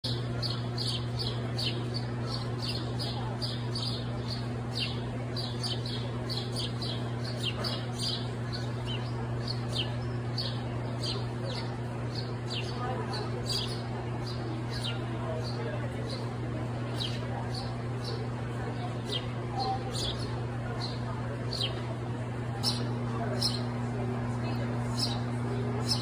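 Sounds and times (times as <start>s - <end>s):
steady low hum: 0.0s - 26.0s
sparrow chirping: 0.1s - 16.3s, 16.9s - 18.2s, 19.0s - 21.8s, 22.6s - 23.8s, 24.5s - 25.2s.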